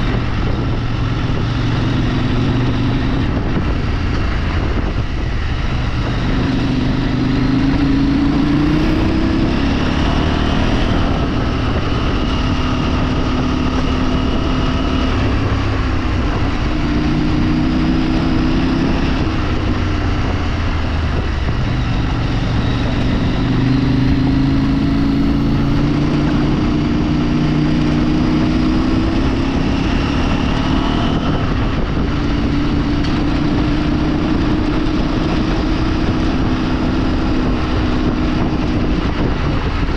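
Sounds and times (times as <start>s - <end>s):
road and wind rumble: 0.0s - 39.9s
vehicle engine accelerating: 0.0s - 39.9s.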